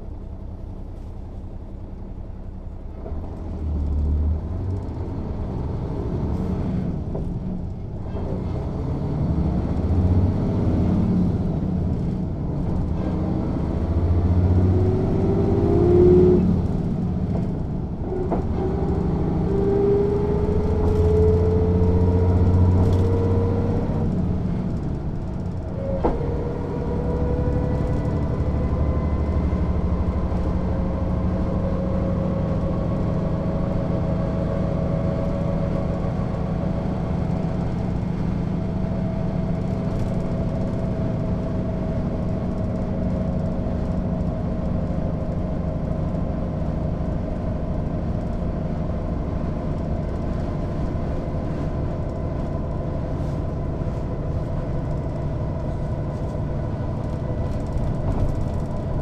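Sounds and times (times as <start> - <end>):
diesel bus engine running: 0.0 - 59.0.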